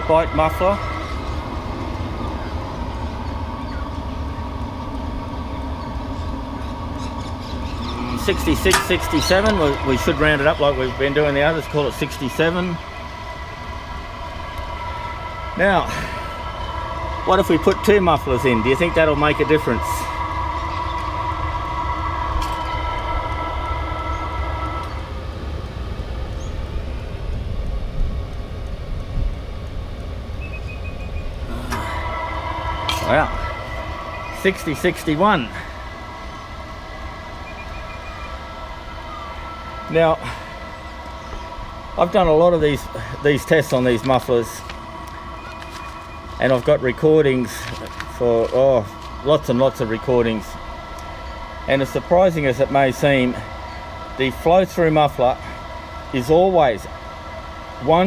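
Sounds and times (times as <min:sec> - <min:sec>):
air heater exhaust rumble: 0:00.0 - 0:58.0
high steady whine: 0:00.0 - 0:58.0.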